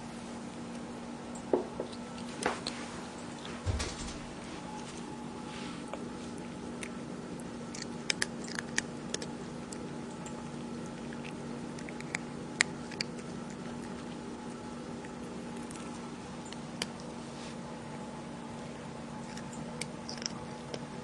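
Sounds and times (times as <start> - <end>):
cat chewing: 0.1 - 3.6, 4.4 - 21.0.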